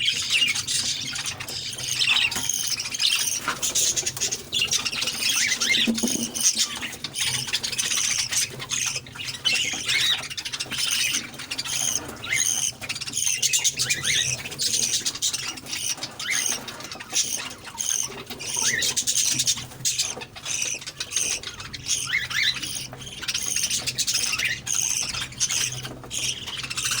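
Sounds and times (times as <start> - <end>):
parrots chirping and squawking: 0.0 - 27.0.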